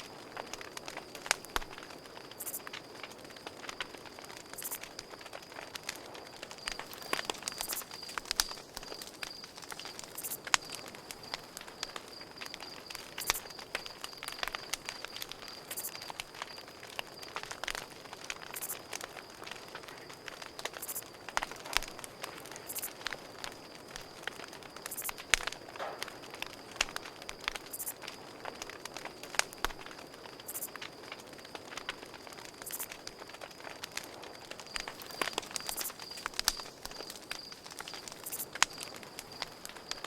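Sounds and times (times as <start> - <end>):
campfire crackling and popping: 0.0 - 40.0
crickets chirping: 0.0 - 40.0.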